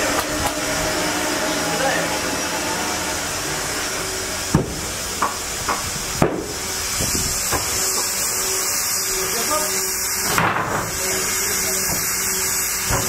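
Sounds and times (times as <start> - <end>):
band sawmill running: 0.0 - 13.0.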